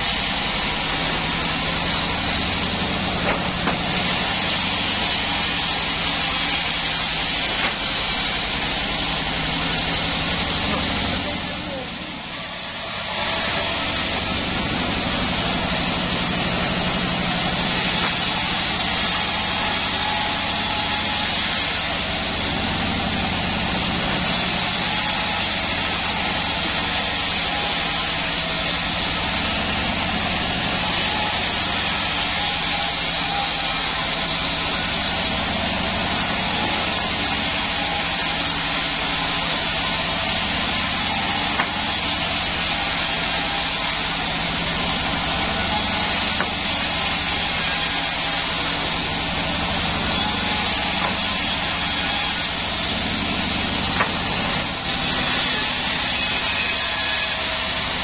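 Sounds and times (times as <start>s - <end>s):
band sawmill humming: 0.0s - 58.0s.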